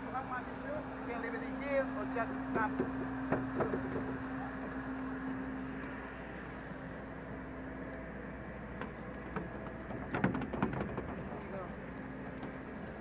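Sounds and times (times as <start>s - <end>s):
boat machinery hum and hiss: 0.0s - 13.0s.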